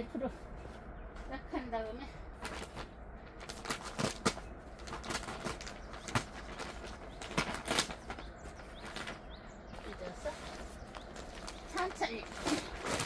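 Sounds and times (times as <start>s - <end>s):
plastic sack crinkling: 2.4s - 13.0s.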